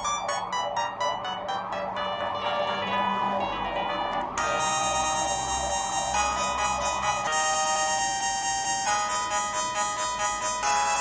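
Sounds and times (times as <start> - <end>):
mobile phone ringtone melody: 0.0 - 11.0.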